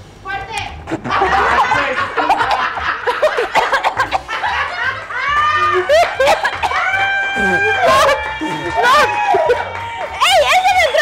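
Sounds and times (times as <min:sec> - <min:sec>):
background music with low beat: 0:00.0 - 0:11.0
people laughing loudly: 0:01.0 - 0:11.0.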